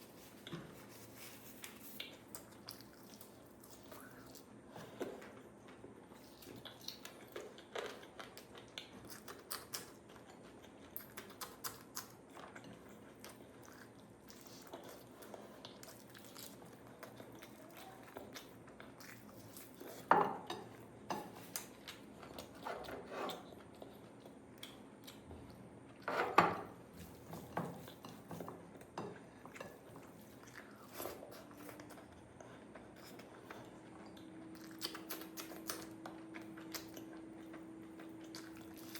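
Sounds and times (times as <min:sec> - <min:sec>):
person chewing food: 0:00.0 - 0:26.1, 0:26.8 - 0:38.9.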